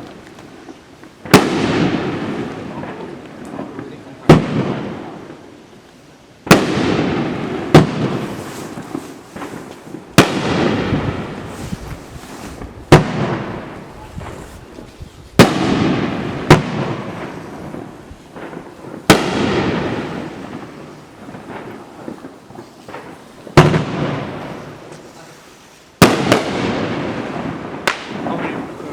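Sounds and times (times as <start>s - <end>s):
fireworks bangs: 0.0s - 5.6s, 6.4s - 28.9s
small fireworks pops: 0.0s - 28.9s.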